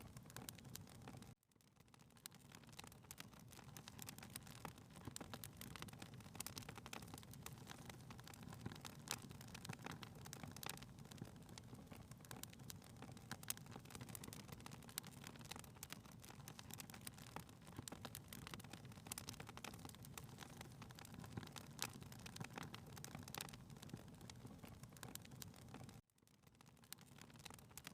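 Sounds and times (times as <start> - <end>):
faint wood fire crackling: 0.0 - 27.9.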